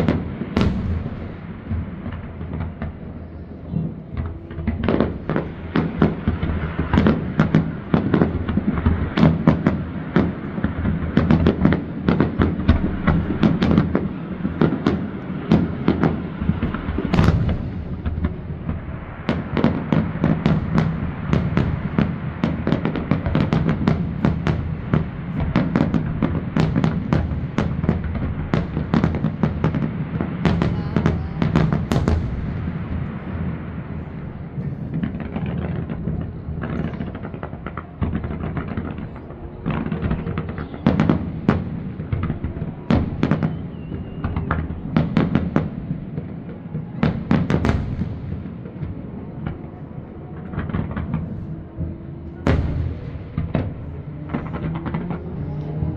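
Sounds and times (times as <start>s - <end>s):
fireworks bursts: 0.0s - 55.9s.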